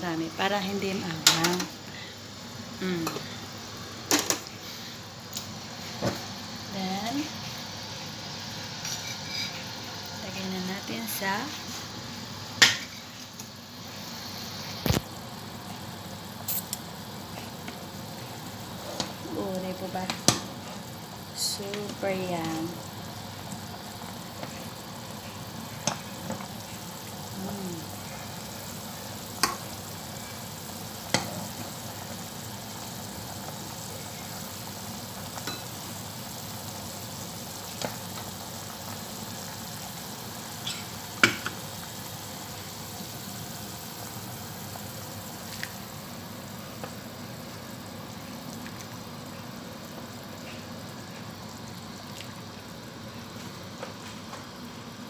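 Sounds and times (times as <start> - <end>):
broth bubbling in a pot: 0.3 - 55.0.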